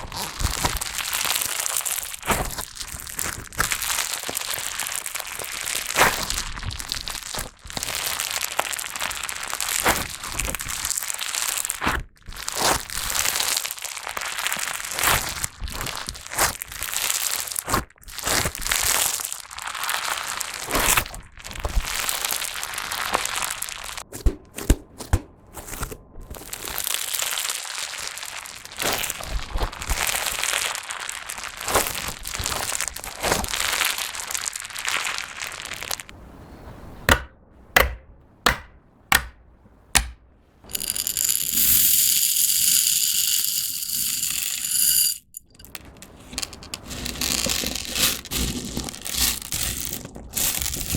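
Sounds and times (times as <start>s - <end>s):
plastic pellets pouring: 0.0s - 24.0s, 26.5s - 36.1s, 40.7s - 50.9s
foam slime crunching: 0.0s - 36.1s, 46.2s - 50.9s.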